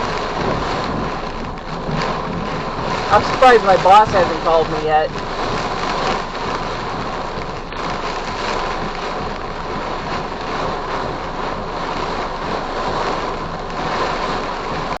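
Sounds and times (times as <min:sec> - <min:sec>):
heavy rain beating on van: 0:00.0 - 0:15.0.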